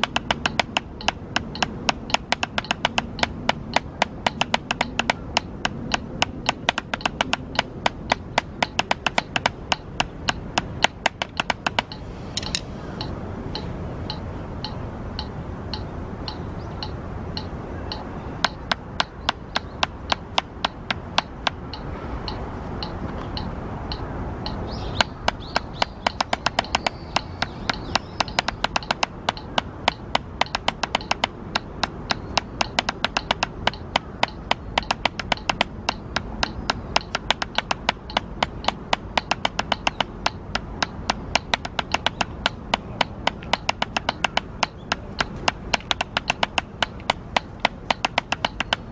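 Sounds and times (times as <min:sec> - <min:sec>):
drumsticks striking practice pad: 0:00.0 - 0:48.9.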